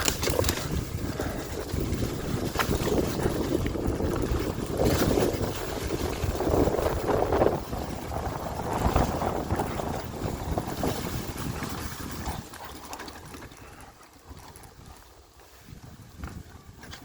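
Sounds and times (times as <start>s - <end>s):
dirt bike engine running: 0.0s - 17.0s
wind buffeting microphone: 0.0s - 17.0s.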